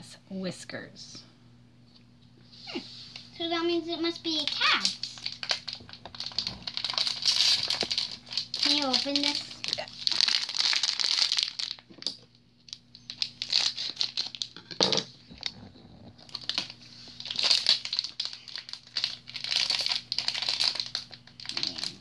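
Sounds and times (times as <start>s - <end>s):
plastic wrapper crinkling: 4.3s - 22.0s.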